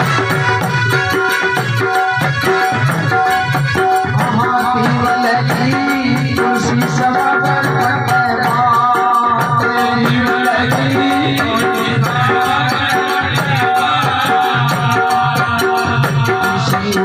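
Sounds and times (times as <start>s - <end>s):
jingling percussion: 0.0s - 17.0s
steady drum beat: 0.0s - 17.0s.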